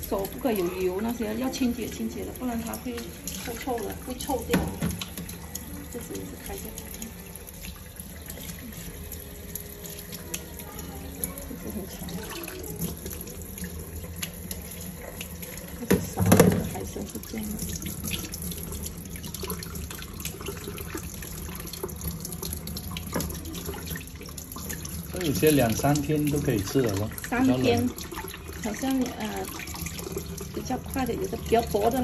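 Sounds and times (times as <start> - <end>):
tap water running: 0.0 - 32.0
water splashing in bowl: 0.0 - 32.0.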